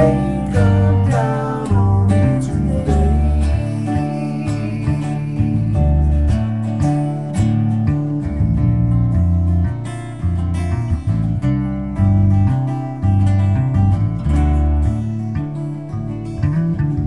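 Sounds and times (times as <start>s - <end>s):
acoustic guitar strumming chords: 0.0s - 17.0s
bass line: 0.0s - 17.0s.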